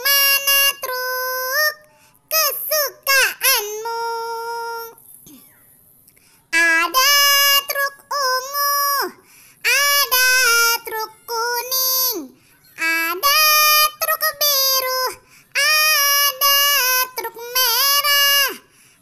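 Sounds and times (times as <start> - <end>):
high-pitched singing voice: 0.0 - 5.0, 6.5 - 18.7.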